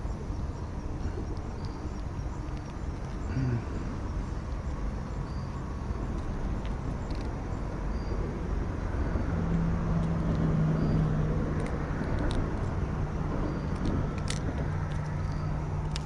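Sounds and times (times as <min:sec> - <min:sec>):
passing motor vehicle rumble: 0:00.0 - 0:16.0.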